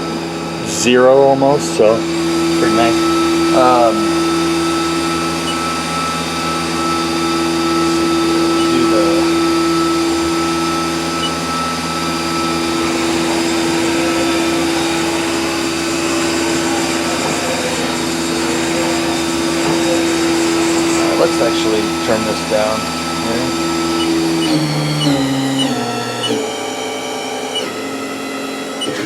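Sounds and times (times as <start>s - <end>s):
machine spindle whine: 0.0s - 29.0s.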